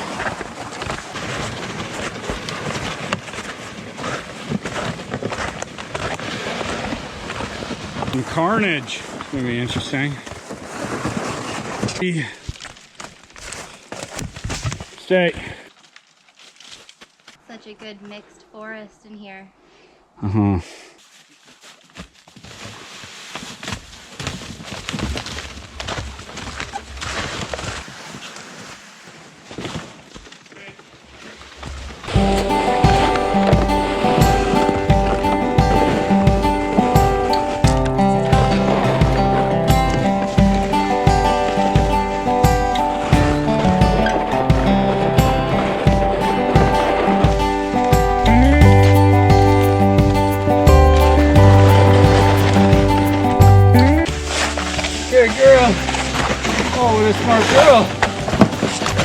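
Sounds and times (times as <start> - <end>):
footsteps in wet snow and mud: 0.0 - 18.2, 20.7 - 59.0.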